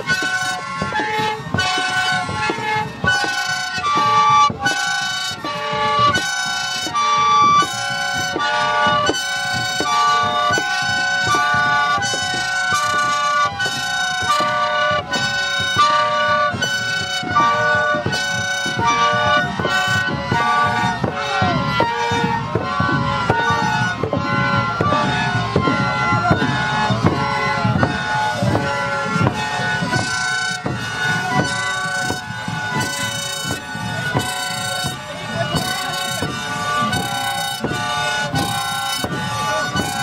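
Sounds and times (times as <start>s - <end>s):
shrill flute blasts: 0.0s - 40.0s.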